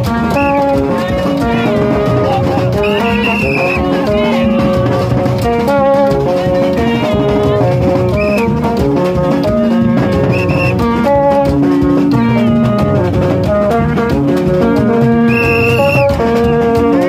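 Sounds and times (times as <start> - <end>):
horns blowing short notes: 0.0 - 17.0
percussion: 0.0 - 17.0.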